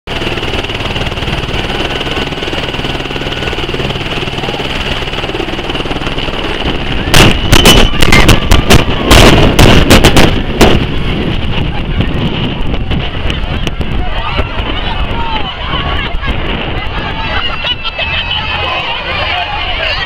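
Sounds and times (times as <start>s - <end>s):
helicopter turbine and rotor: 0.1s - 20.0s
rotor downwash buffeting microphone: 0.1s - 20.0s.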